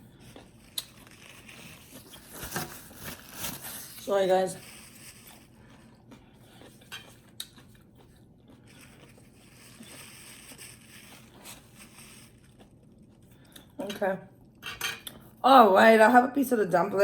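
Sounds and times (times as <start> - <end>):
quiet chewing of food: 0.0 - 3.0, 4.6 - 15.4.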